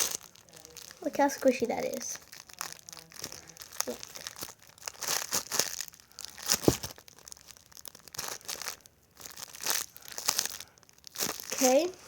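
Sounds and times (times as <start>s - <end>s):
sharp crackle: 0.0s - 12.0s
squishy toy crinkling and rustling: 0.0s - 12.0s.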